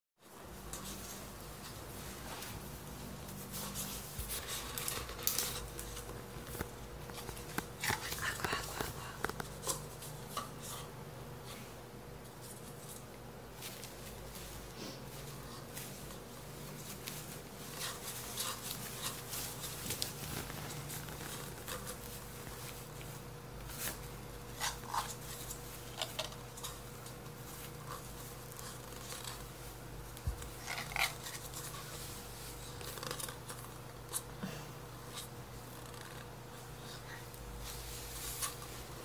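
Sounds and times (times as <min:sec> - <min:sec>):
faint steady hum: 0:00.2 - 0:39.0.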